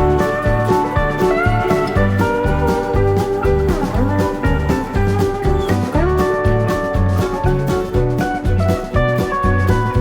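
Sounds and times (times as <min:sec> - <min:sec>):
country music with slide guitar: 0:00.0 - 0:10.0.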